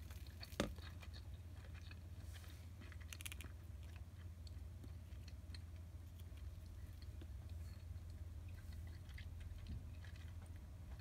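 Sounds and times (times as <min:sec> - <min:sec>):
chewing and mouth sounds: 0:00.0 - 0:11.0
low steady hum: 0:00.0 - 0:11.0.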